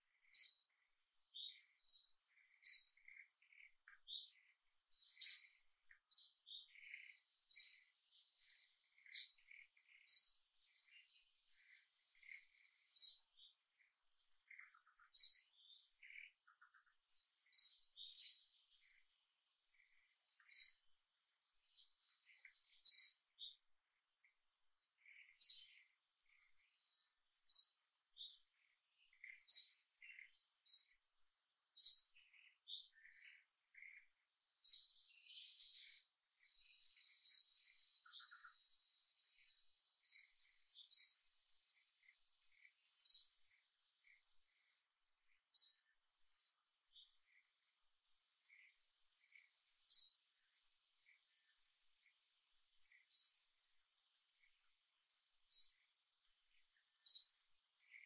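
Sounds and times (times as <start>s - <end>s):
birds chirping: 0.0s - 58.0s
faint insect-like hiss: 0.0s - 58.0s.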